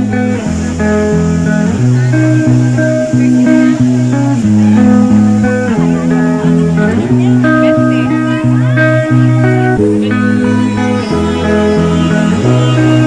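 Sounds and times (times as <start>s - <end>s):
background music with held chords: 0.0s - 13.0s.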